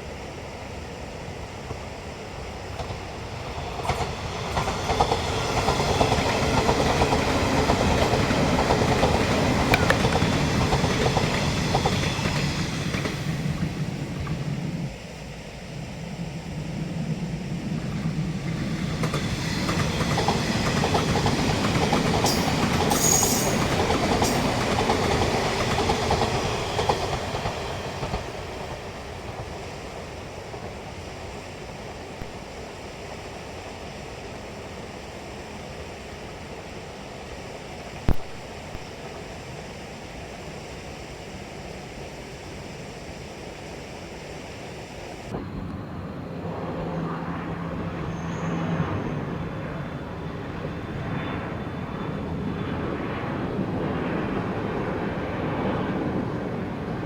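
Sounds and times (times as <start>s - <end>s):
electric train passing: 0.0s - 57.0s
high squeal of train: 0.0s - 57.0s.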